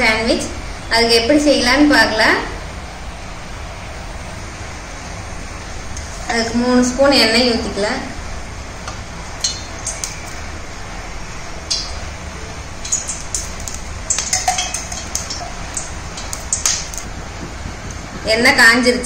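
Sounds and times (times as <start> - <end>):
low hum of oil heating: 0.0 - 19.0.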